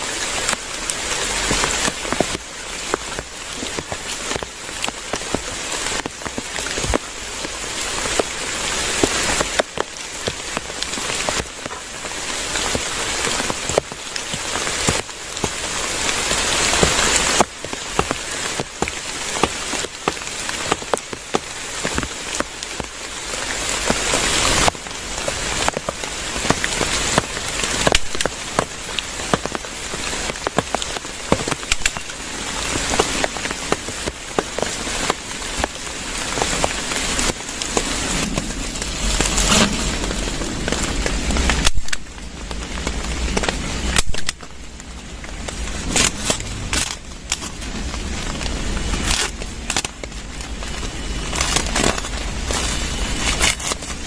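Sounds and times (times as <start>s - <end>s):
heavy rain: 0.0s - 54.0s
raindrops tapping on surface: 0.0s - 54.0s.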